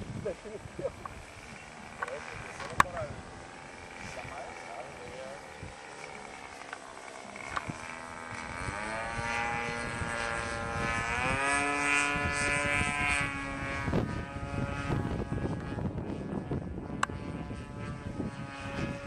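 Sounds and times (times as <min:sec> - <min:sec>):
model airplane engine: 0:00.0 - 0:19.0.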